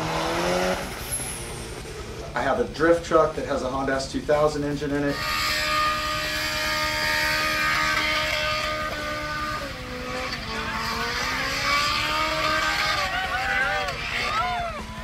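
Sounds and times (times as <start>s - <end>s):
engine at high revs: 0.0s - 15.0s.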